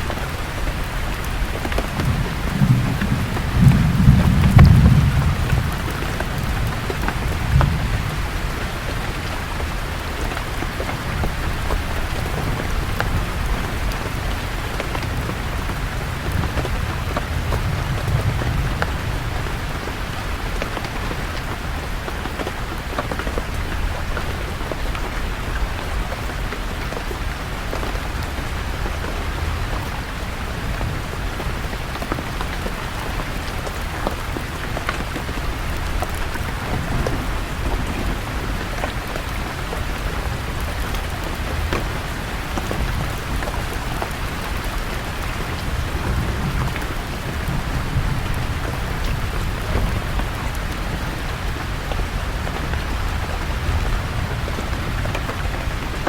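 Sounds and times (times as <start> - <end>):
distant thunder rumble: 0.0 - 22.6, 28.3 - 56.0
sharp raindrop ticks: 0.0 - 29.9, 30.6 - 56.0
steady rain falling: 0.0 - 56.0.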